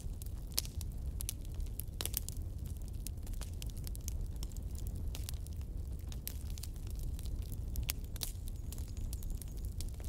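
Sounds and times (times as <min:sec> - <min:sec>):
fire crackling and popping: 0:00.0 - 0:10.0.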